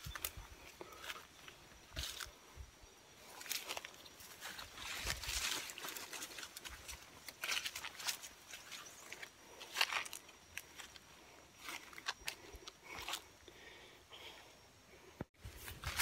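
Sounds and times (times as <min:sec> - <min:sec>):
footsteps through brush: 0:00.0 - 0:02.4, 0:03.2 - 0:13.3, 0:15.4 - 0:16.0
leaves and undergrowth rustling: 0:00.0 - 0:13.7, 0:15.4 - 0:16.0.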